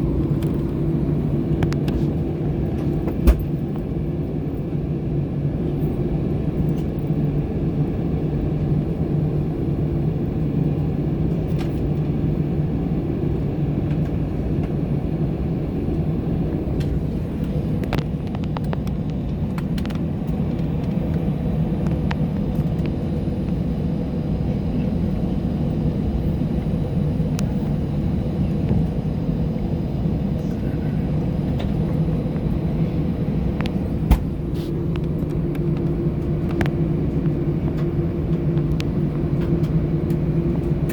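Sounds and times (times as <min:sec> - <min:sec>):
jet engines humming: 0:00.0 - 0:40.9.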